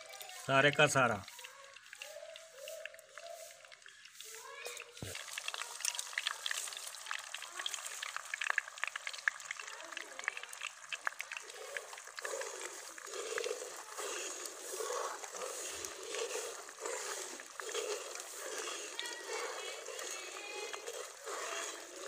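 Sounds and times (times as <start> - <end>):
spatula stirring liquid: 0.0 - 22.0
syrup boiling and bubbling: 0.0 - 22.0.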